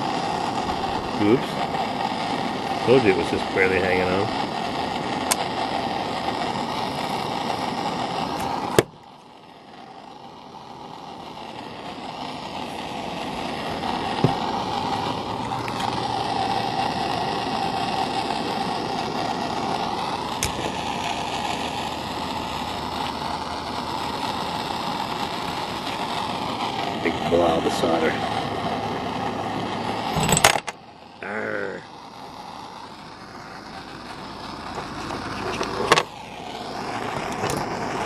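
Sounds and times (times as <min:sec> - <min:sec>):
soldering torch hissing: 0:00.0 - 0:38.0.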